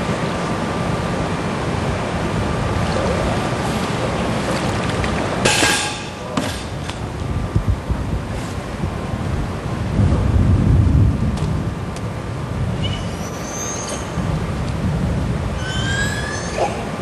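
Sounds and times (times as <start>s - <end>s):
water: 0.0s - 17.0s
wind: 0.0s - 17.0s.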